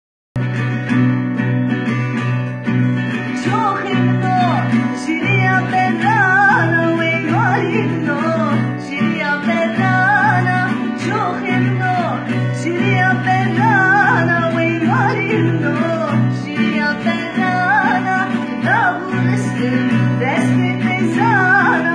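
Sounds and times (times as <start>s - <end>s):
plucked strings: 0.4s - 21.9s
person singing ornamented melody: 3.3s - 21.9s.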